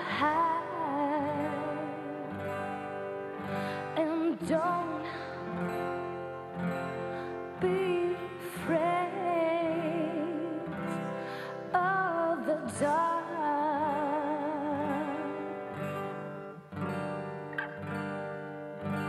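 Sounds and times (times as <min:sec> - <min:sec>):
woman singing slow ballad: 0:00.0 - 0:16.0
acoustic guitars: 0:00.0 - 0:19.0.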